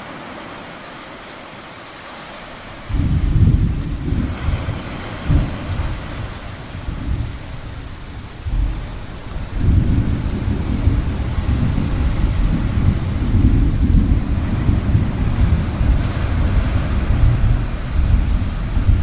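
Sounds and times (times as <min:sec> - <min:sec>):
ocean waves hissing: 0:00.0 - 0:19.0
thunder rumbling: 0:02.7 - 0:19.0.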